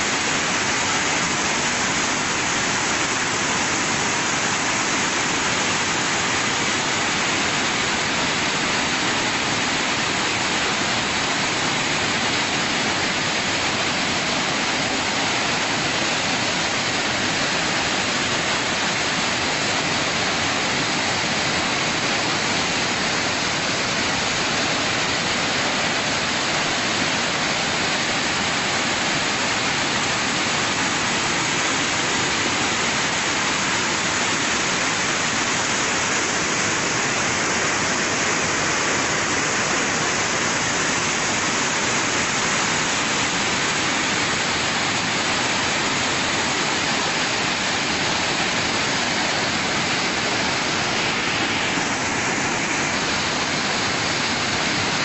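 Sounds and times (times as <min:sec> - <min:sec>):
floodwater rushing: 0:00.0 - 0:55.0
heavy rain: 0:00.0 - 0:55.0.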